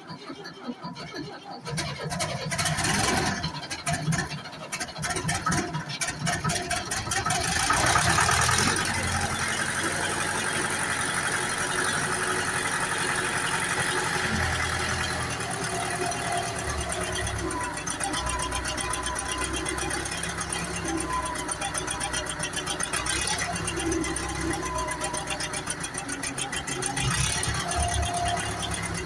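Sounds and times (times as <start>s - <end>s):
diesel engine knocking and idling: 0.0s - 29.0s.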